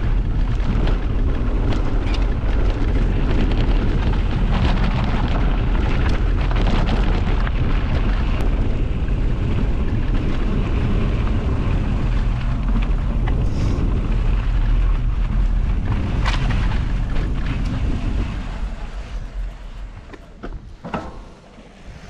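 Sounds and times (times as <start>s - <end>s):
tyres rolling over gravel: 0.0s - 20.8s
wind buffeting microphone: 0.0s - 22.0s.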